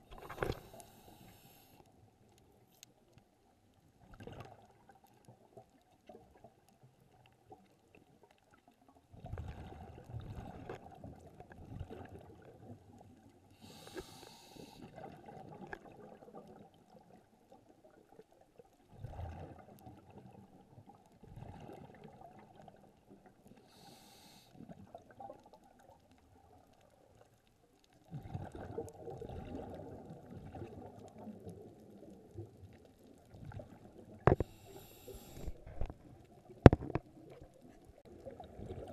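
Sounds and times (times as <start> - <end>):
underwater exhaled bubbles: 0.0 - 1.8, 4.0 - 38.9.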